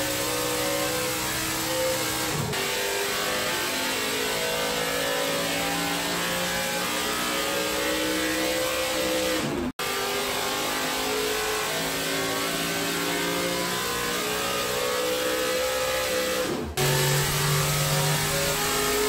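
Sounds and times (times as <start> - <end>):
race engine revving: 0.0 - 19.0.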